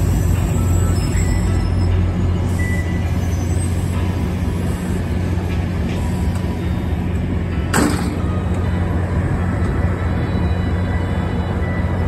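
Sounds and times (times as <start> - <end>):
diesel locomotive drone: 0.0 - 12.0
train coaches passing: 0.0 - 12.0.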